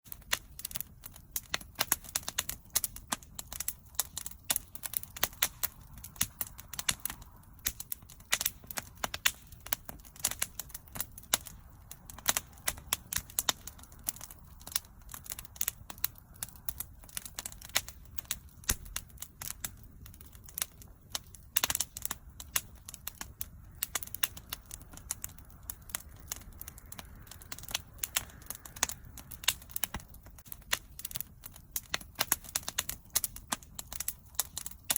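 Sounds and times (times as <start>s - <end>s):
wood fire crackling: 0.0s - 34.9s
low rumble of flames: 0.1s - 34.9s.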